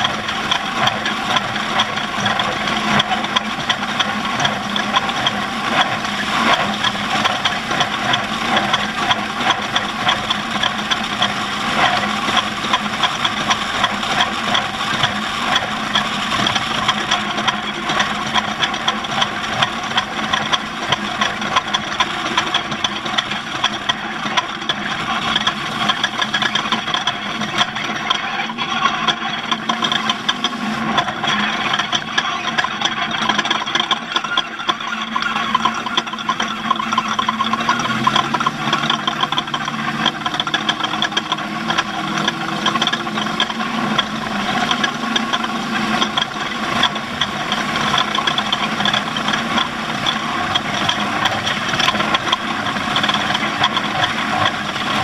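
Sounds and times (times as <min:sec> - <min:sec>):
off-road vehicle engine running: 0:00.0 - 0:55.0
rattling: 0:00.0 - 0:55.0.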